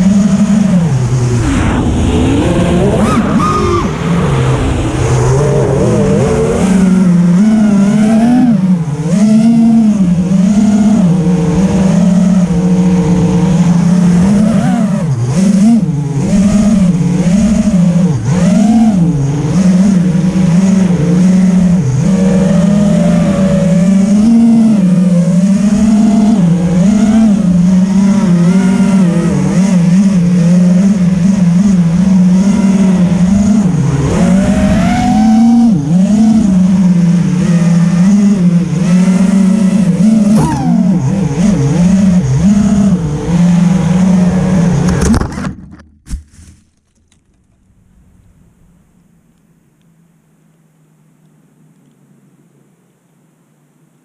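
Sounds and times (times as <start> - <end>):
quadcopter motors whining: 0.0 - 45.1.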